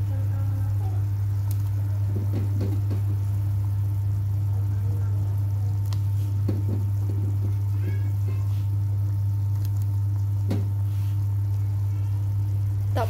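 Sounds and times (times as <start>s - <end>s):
low electrical hum: 0.0s - 13.0s
soup bubbling: 0.7s - 13.0s.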